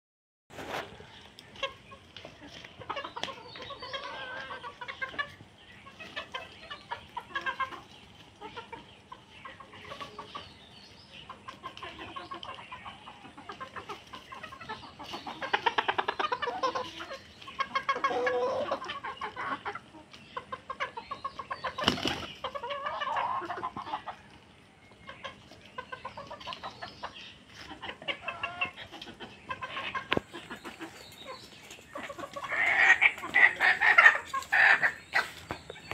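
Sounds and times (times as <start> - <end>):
hens clucking: 0.6 - 35.9.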